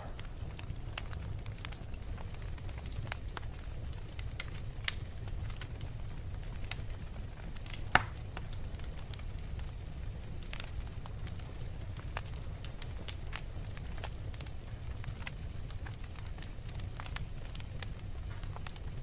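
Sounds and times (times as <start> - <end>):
logs crackling and popping: 0.0 - 19.0
low rush of flame: 0.0 - 19.0.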